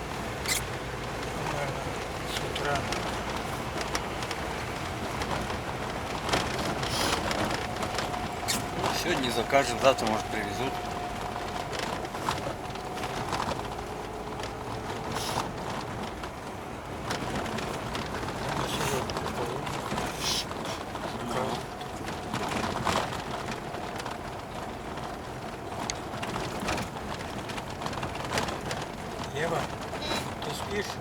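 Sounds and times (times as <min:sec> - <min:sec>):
car road and engine rumble: 0:00.0 - 0:31.0
short knocks and rattles: 0:00.0 - 0:31.0.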